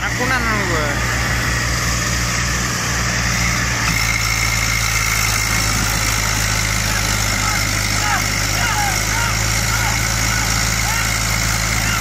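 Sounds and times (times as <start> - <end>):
diesel tractor engines under heavy load: 0.0 - 12.0.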